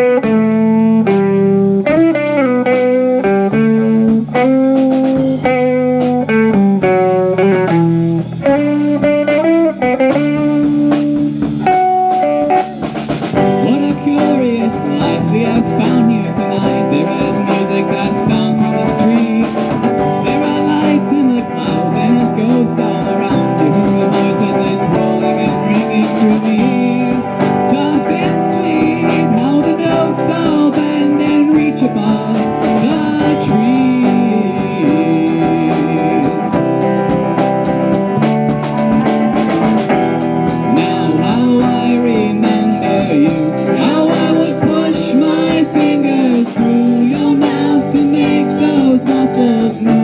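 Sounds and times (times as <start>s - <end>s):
bass guitar: 0.0s - 50.0s
drum kit: 0.0s - 50.0s
electric guitar: 0.0s - 50.0s.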